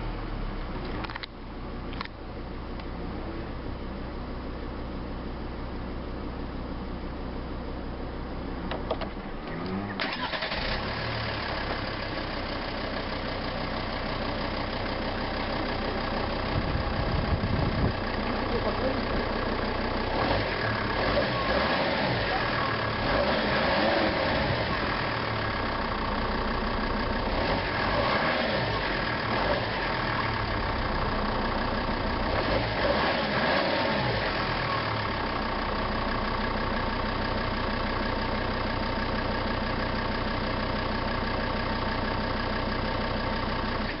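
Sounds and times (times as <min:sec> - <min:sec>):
diesel engine idling and revving: 0:00.0 - 0:44.0.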